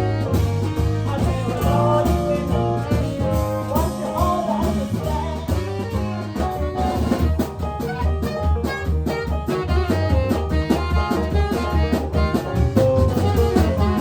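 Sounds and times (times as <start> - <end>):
blues band playing: 0.0 - 14.0
drums: 0.0 - 14.0
steady bass line: 0.0 - 14.0.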